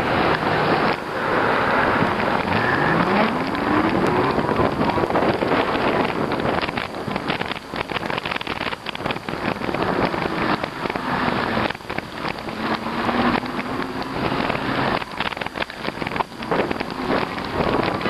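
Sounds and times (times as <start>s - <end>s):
road and tyre noise: 0.0s - 18.0s
wind buffeting microphone: 0.0s - 18.0s.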